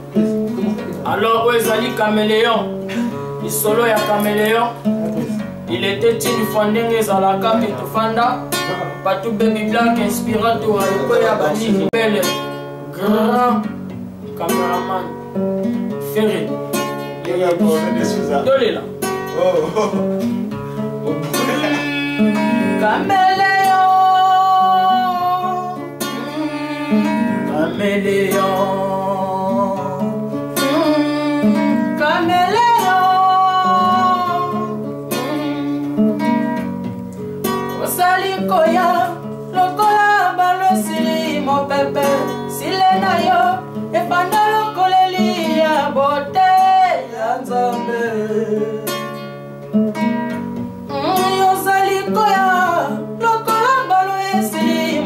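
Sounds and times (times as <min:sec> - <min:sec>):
classical guitar plucking: 0:00.0 - 0:55.0
man singing: 0:00.2 - 0:13.8, 0:21.1 - 0:36.6, 0:37.8 - 0:49.2, 0:50.9 - 0:55.0.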